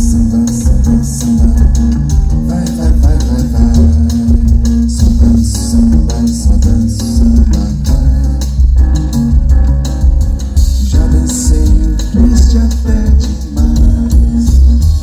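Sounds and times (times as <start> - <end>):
double bass: 0.0 - 15.0
guitar: 0.0 - 15.0
piano: 0.0 - 15.0.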